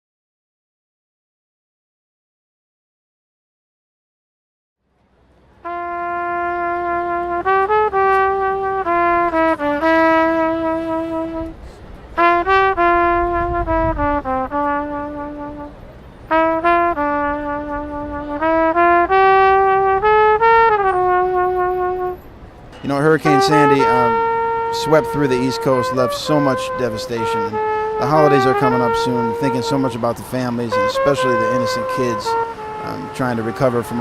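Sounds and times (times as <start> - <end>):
trumpet playing slow melody: 5.6 - 34.0.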